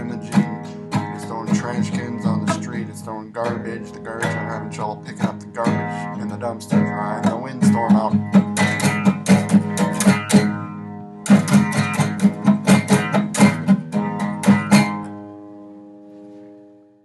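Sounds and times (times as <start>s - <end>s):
guitar strumming: 0.0s - 17.0s.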